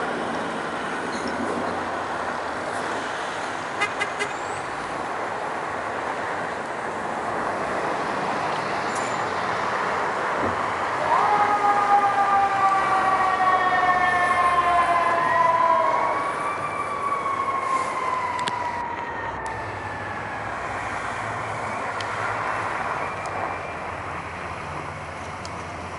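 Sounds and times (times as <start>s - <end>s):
street traffic noise: 0.0s - 25.9s
fire engine sirens wailing: 1.7s - 25.9s.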